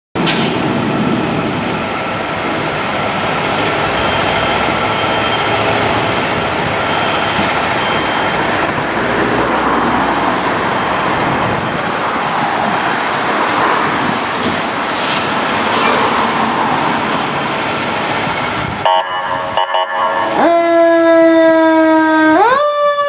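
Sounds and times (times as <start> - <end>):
fire truck diesel engine rumble: 0.2 - 22.8.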